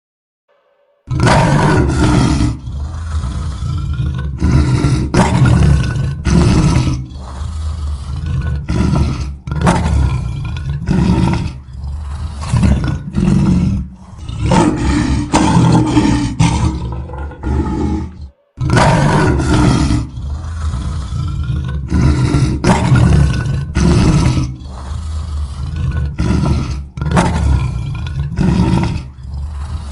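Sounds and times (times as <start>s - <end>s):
lion roaring: 1.0s - 29.9s.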